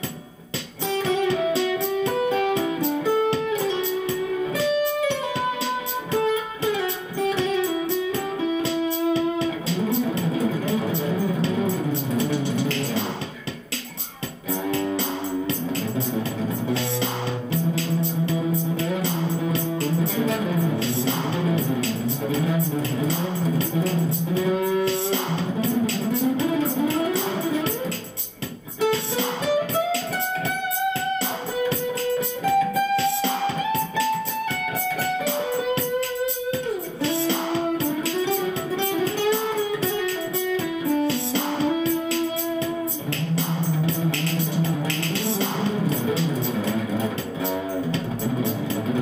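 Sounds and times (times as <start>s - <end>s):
overdriven acoustic guitar melody: 0.0s - 49.0s.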